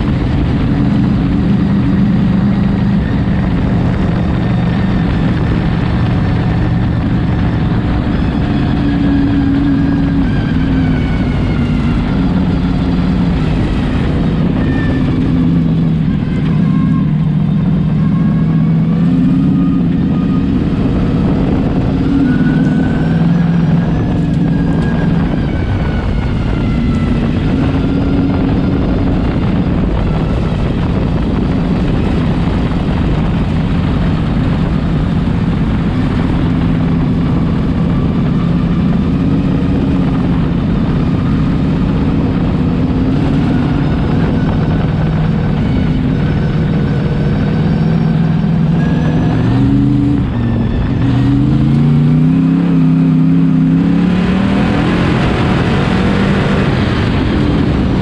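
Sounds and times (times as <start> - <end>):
race car engine running hard: 0.0 - 58.0
wind noise: 0.0 - 58.0.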